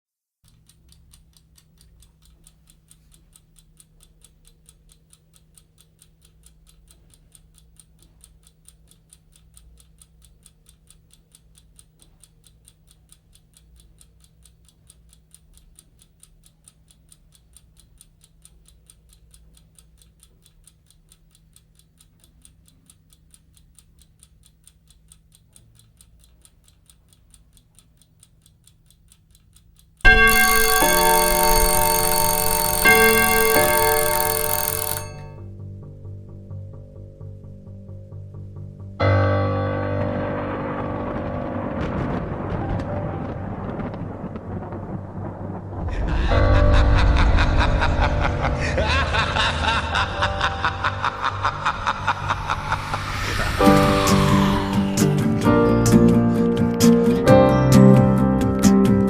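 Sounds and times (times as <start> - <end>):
clock ticking: 0.4 - 35.5, 45.7 - 59.0.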